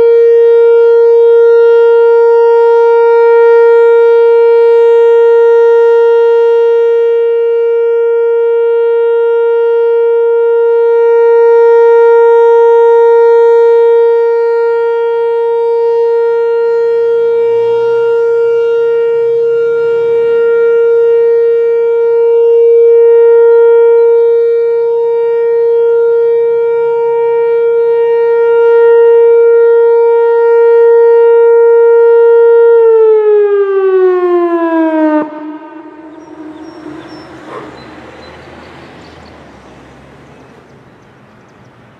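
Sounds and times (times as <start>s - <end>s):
siren steady tone winding down: 0.0s - 41.9s.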